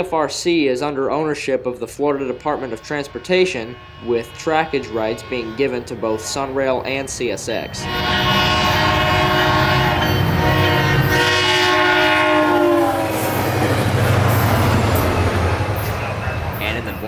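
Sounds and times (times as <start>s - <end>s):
train rumble and wheel clatter: 1.0s - 17.0s
train horn: 2.0s - 17.0s.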